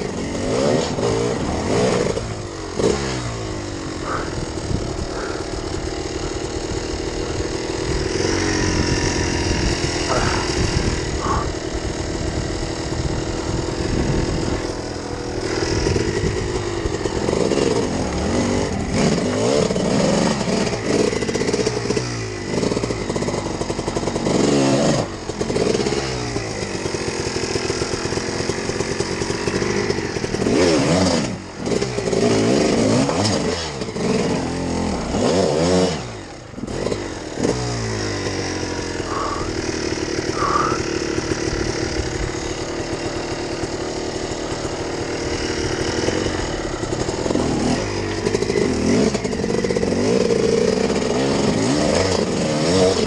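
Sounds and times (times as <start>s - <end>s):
off-road motorcycle engine revving: 0.0s - 53.0s.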